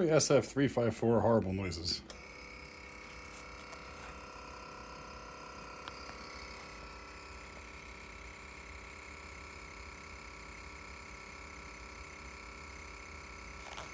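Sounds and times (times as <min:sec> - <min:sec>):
floppy disk drive whine and hum: 0:01.5 - 0:13.9.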